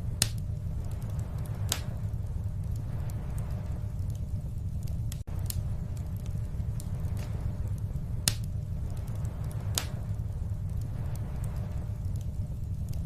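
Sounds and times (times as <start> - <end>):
fire crackling pops: 0.0 - 13.0
wood fire rumbling: 0.0 - 13.0.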